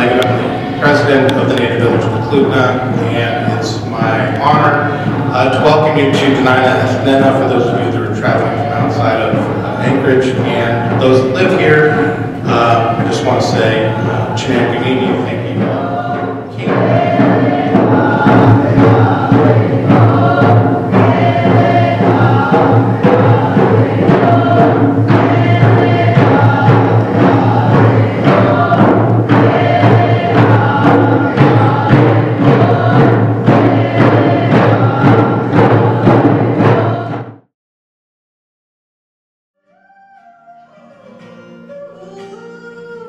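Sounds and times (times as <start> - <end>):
steady drum beat: 0.0 - 37.3
group of voices singing: 0.0 - 37.4.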